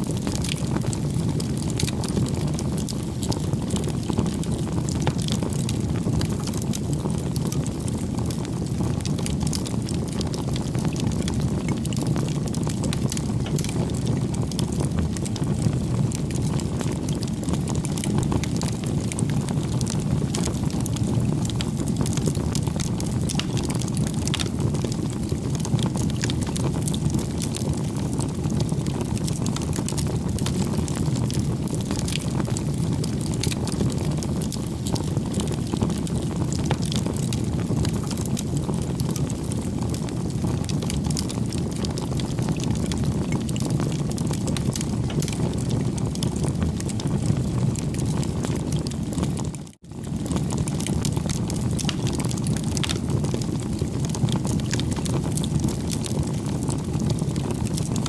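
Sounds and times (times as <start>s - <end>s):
fire crackling and popping: 0.0s - 58.0s
wood fire flames rushing: 0.0s - 58.0s.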